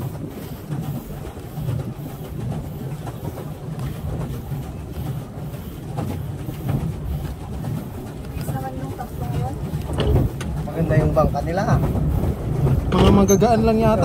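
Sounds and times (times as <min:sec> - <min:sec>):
pedal boat paddle wheel churning: 0:00.0 - 0:14.0
water noise: 0:00.0 - 0:14.0.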